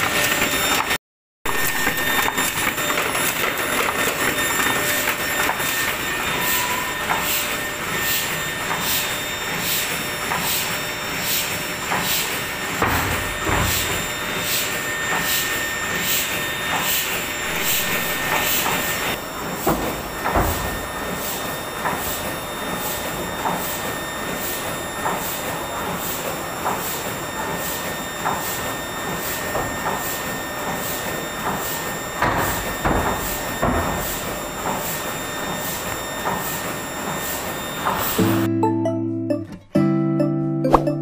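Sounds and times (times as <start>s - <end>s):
printing press clatter: 0.0s - 38.2s
rhythmic hissing of sheet feeder: 2.1s - 12.9s, 13.6s - 38.4s.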